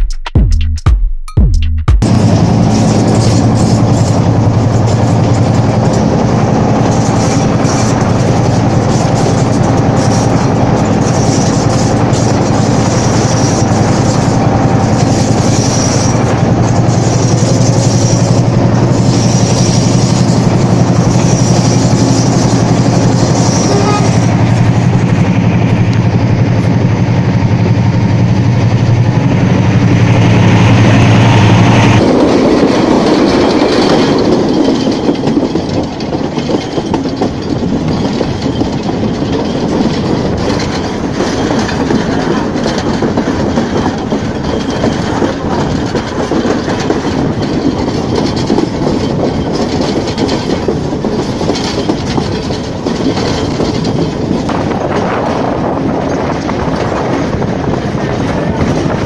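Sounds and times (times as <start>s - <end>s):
diesel locomotive drone: 2.0s - 59.0s
rumble of carriage wheels: 2.0s - 59.0s
train wheels clickety-clack: 2.0s - 59.0s.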